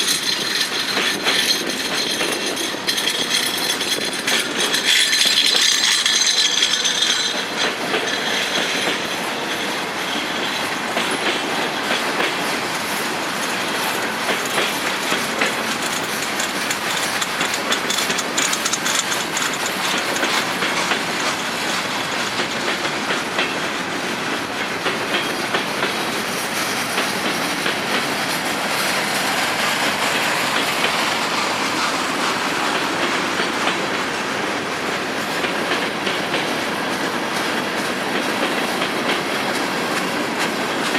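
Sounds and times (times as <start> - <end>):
train wheels clicking over rail joints: 0.0 - 40.9.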